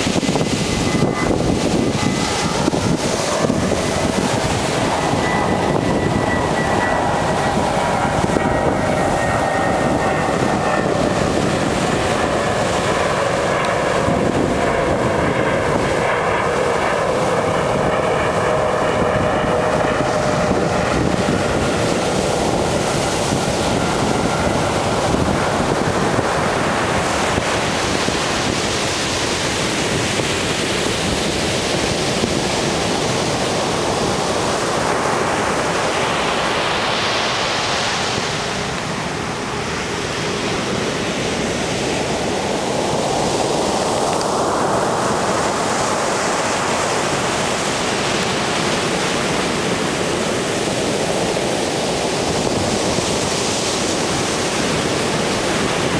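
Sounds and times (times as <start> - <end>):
waves breaking: 0.0 - 55.9.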